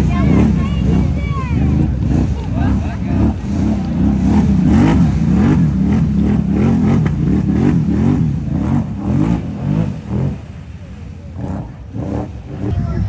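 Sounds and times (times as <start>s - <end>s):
engine revving: 0.0s - 12.9s.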